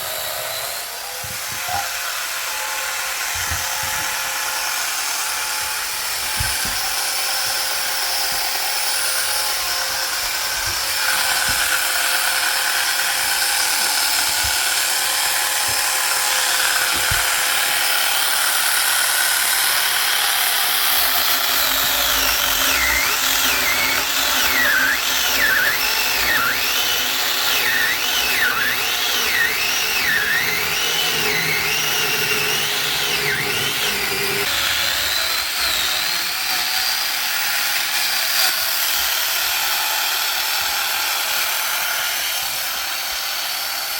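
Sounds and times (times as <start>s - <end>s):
power saw cutting logs: 0.0s - 43.9s.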